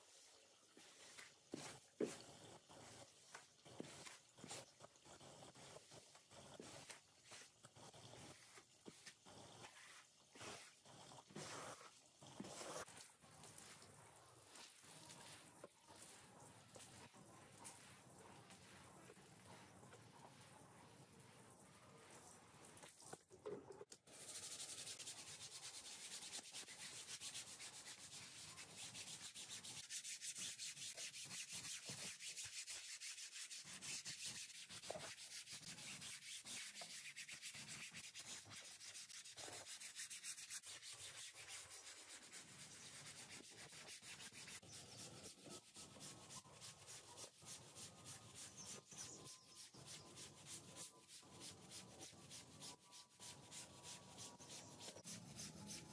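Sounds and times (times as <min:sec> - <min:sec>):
brush scrubbing wet rug: 0:00.0 - 0:23.3, 0:24.1 - 0:55.9.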